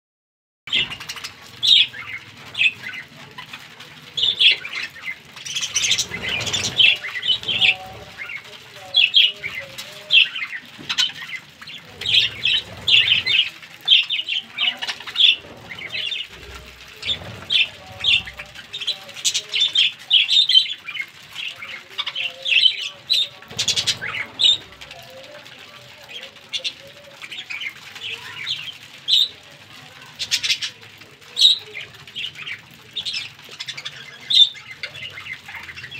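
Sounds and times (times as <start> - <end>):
budgerigars chirping and chattering: 0.7 - 35.9
wings flapping: 0.7 - 35.9.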